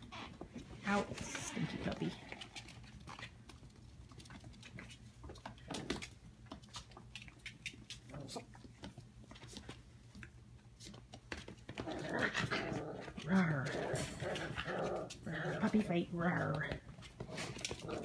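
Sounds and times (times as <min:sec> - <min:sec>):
dog paws pattering on tile: 0:00.0 - 0:18.0.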